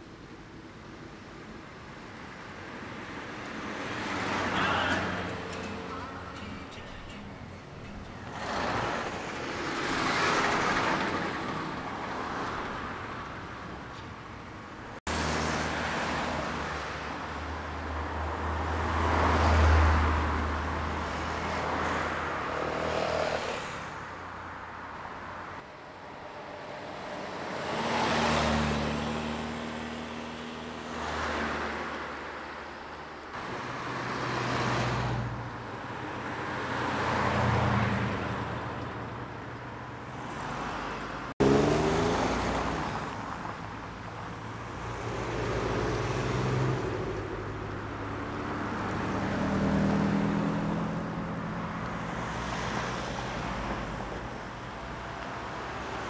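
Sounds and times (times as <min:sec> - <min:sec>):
road traffic noise: 0:00.0 - 0:56.0
cars driving past: 0:02.8 - 0:14.4, 0:15.0 - 0:56.0.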